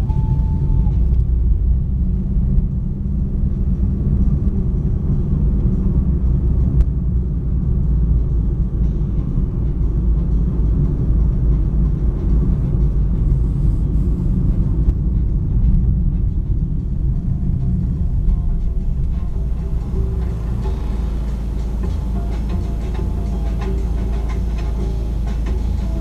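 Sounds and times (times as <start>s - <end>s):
car interior engine and tyre rumble: 0.0s - 26.0s.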